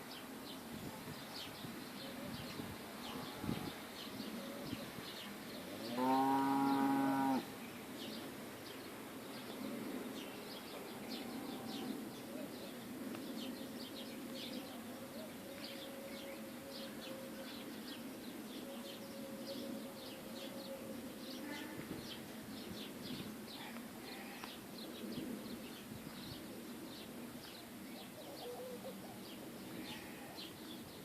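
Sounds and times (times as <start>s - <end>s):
birds chirping: 1.2s - 31.0s.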